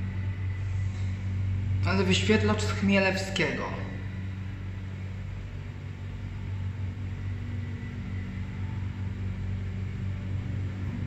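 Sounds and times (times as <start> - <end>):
lift drive humming: 0.0 - 11.0.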